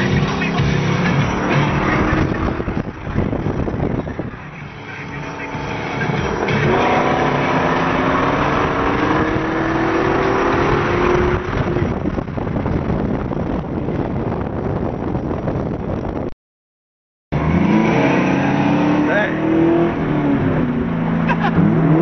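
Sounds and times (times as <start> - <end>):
car engine accelerating and revving: 0.0 - 16.2, 17.3 - 22.0.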